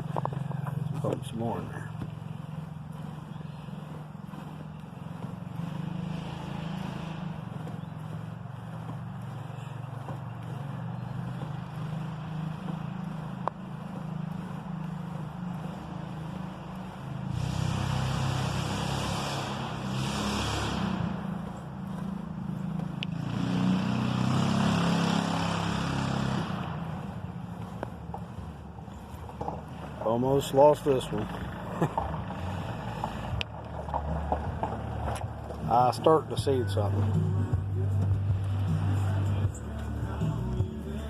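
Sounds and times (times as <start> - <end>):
low motor hum: 0.0 - 41.0.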